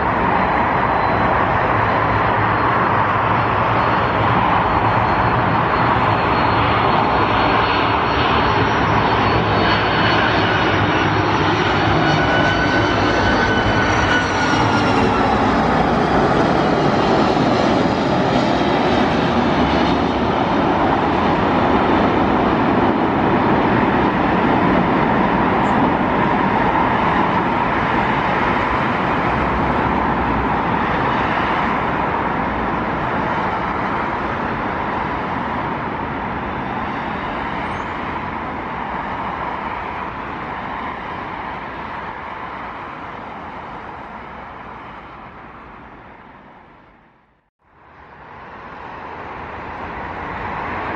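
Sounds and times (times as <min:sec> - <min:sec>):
jet airliner engines: 0:00.0 - 0:50.9.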